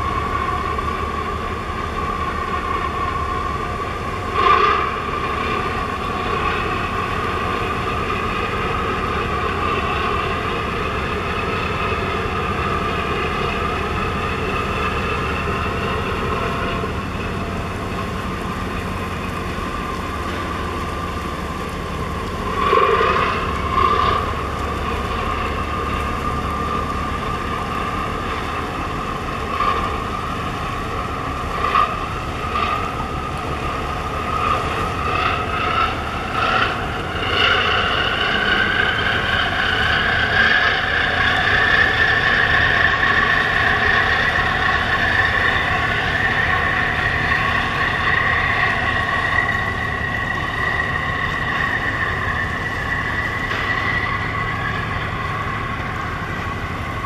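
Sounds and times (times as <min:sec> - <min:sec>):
boat diesel engines running: 0:00.0 - 0:57.0.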